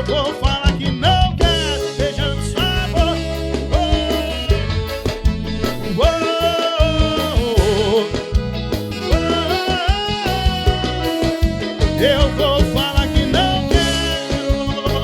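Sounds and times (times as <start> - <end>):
bass line: 0.0 - 15.0
drums keeping a steady beat: 0.0 - 15.0
live band playing pop song: 0.0 - 15.0
held wavering melody line: 1.4 - 15.0.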